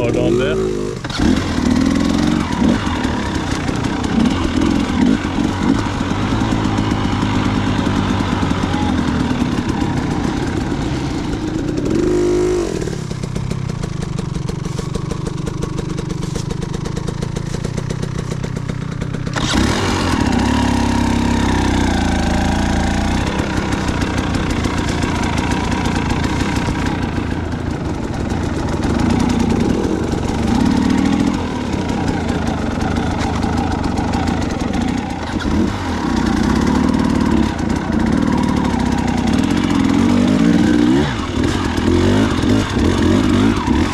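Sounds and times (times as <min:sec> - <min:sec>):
dirt bike engine revving: 0:00.0 - 0:18.3, 0:19.2 - 0:43.9.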